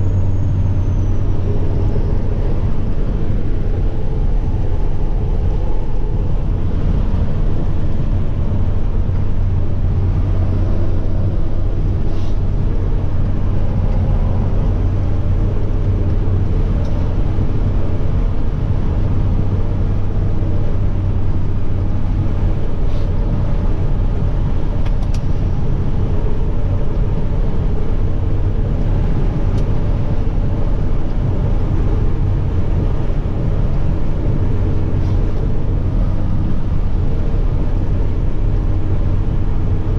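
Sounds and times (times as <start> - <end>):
road noise: 0.0 - 39.9
truck engine droning: 0.0 - 39.9.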